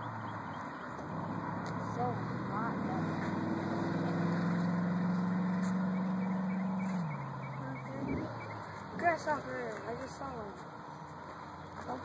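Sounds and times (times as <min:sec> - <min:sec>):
car engine under throttle: 0:00.0 - 0:12.0.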